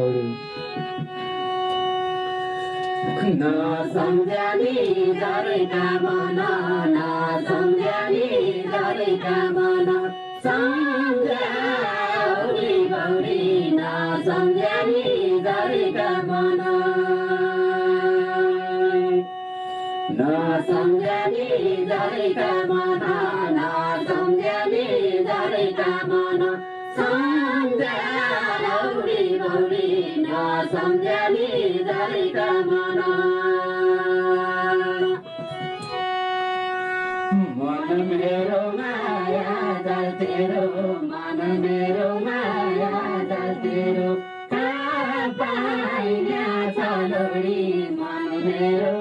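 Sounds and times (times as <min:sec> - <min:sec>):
electronic keyboard held notes: 0:00.0 - 0:49.0
man and woman singing folk song: 0:03.1 - 0:19.2, 0:20.1 - 0:35.2, 0:37.3 - 0:49.0.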